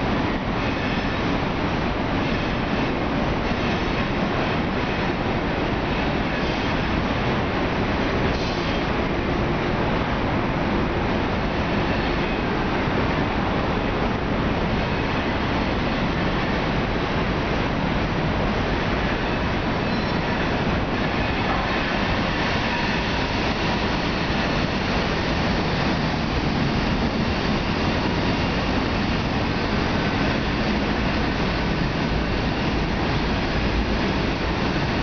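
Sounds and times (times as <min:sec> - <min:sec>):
freight train cars rolling past: 0:00.0 - 0:35.0.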